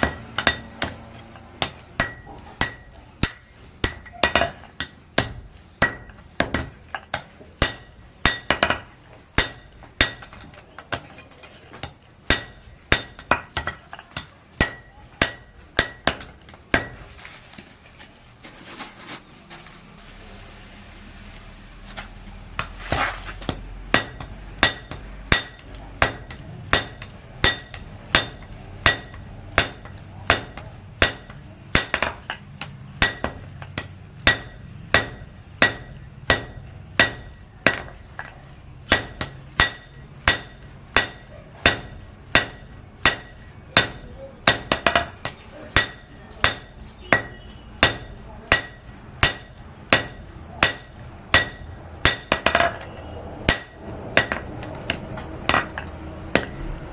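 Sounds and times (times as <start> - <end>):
hammer striking iron on anvil: 0.0 - 17.1, 22.6 - 56.8.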